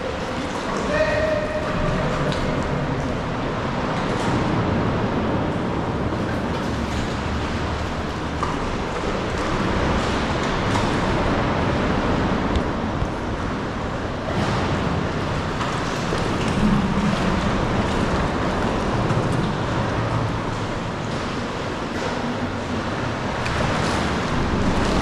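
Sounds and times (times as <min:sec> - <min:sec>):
sea water washing: 0:00.0 - 0:25.0.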